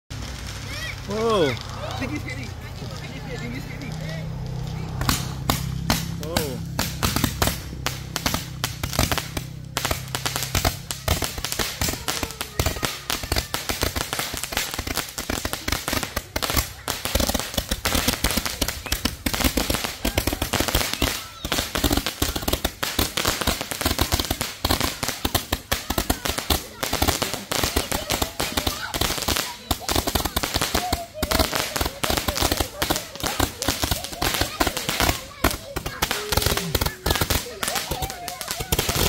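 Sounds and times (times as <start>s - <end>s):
firework cake rapid shots: 0.1s - 39.0s.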